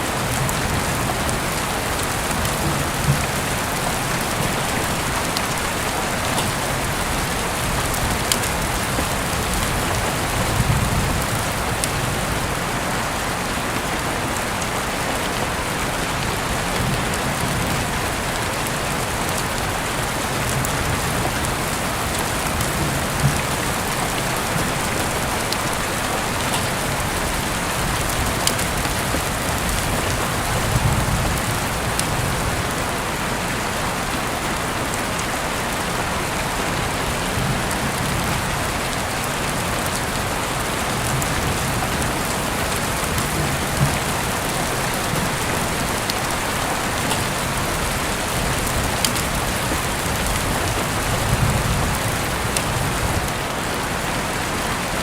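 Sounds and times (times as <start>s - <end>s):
heavy rain on a surface: 0.0s - 55.0s.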